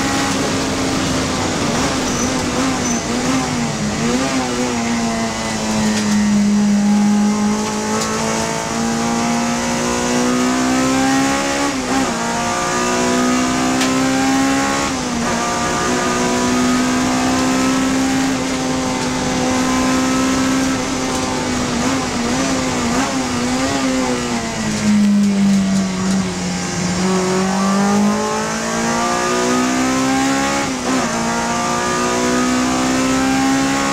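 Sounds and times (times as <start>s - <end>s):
race car engine at high revs: 0.0s - 33.9s.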